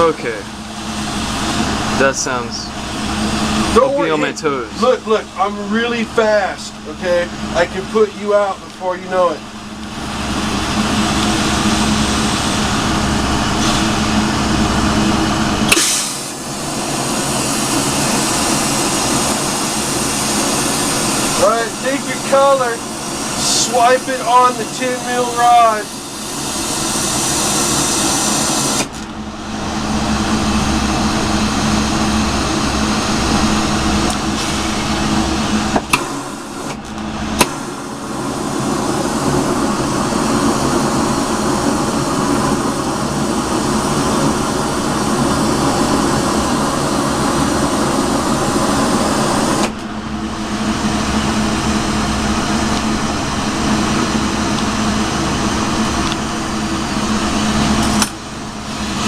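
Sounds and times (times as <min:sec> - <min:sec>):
torch flame hissing: 0:00.0 - 0:59.0.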